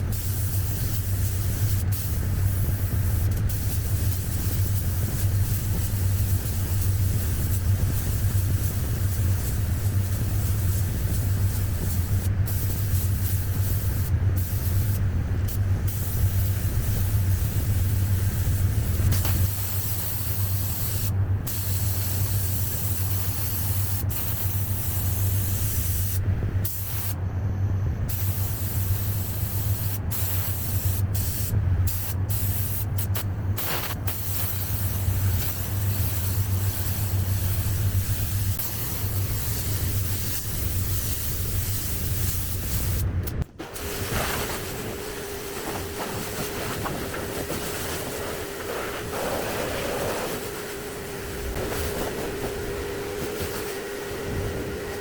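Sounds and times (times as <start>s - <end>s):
spray gun hissing: 0.0s - 15.0s, 15.9s - 27.2s, 28.1s - 43.0s, 43.6s - 55.0s
steady low hum: 0.0s - 55.0s.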